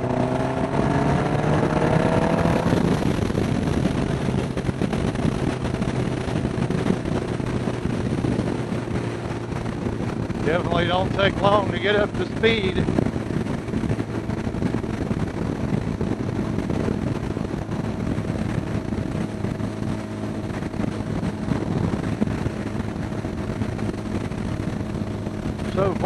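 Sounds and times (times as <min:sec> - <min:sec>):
motorcycle engine running: 0:00.0 - 0:26.0
wind rushing over microphone: 0:00.0 - 0:26.0.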